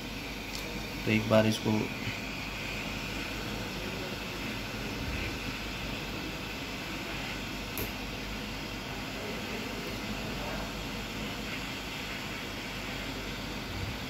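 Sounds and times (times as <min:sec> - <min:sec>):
hot-air gun hissing: 0:00.0 - 0:14.0.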